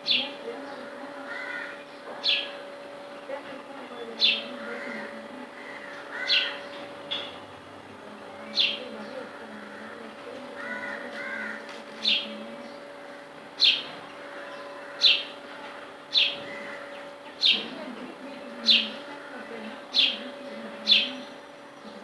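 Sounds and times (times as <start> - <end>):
steady hum: 0.0 - 22.0
bird calling: 0.1 - 2.6, 4.2 - 7.4, 8.4 - 15.4, 16.1 - 22.0.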